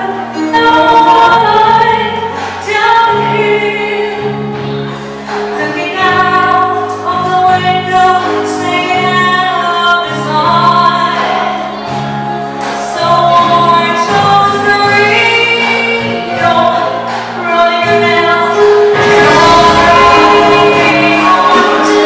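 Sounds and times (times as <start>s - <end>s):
live rock band: 0.0s - 22.0s
woman singing lead: 0.0s - 22.0s.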